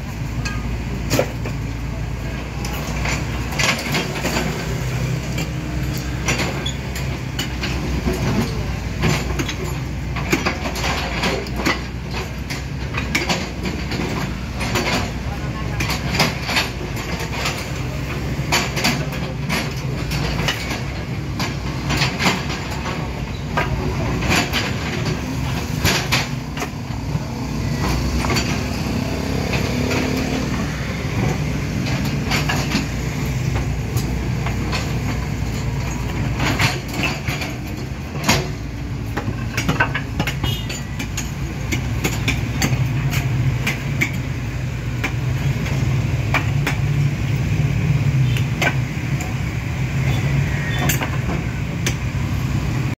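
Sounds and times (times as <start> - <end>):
excavator engine running: 0.0 - 52.9
sharp knocks and clanks: 0.3 - 52.9.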